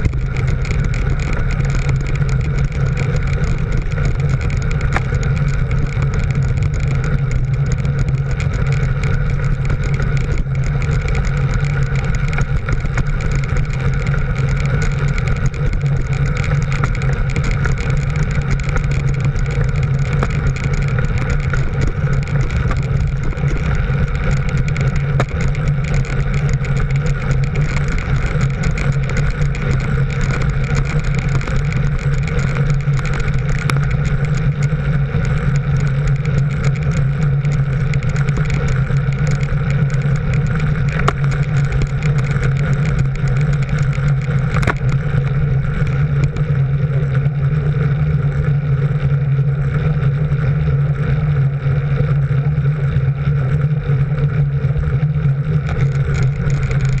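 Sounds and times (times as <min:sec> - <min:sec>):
vehicle engine droning: 0:00.0 - 0:57.0
wind and road noise: 0:00.0 - 0:57.0.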